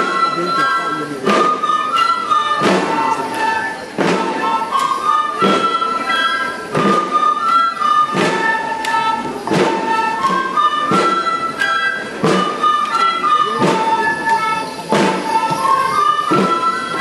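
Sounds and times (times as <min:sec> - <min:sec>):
drum beats: 0:00.0 - 0:17.0
flutes playing melody: 0:00.0 - 0:17.0.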